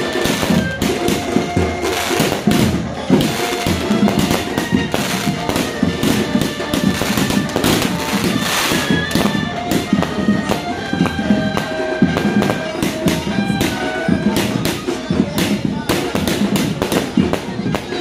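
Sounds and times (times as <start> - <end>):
firework bangs and crackling: 0.0 - 18.0
music: 0.0 - 18.0.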